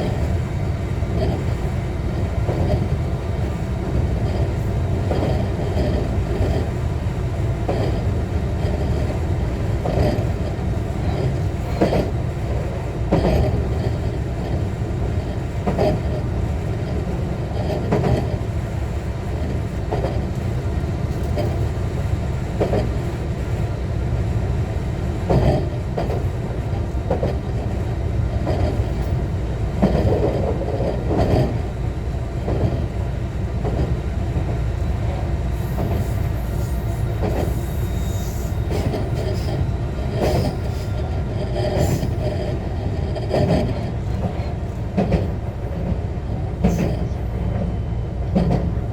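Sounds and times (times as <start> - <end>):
train rumble on board: 0.0 - 48.9.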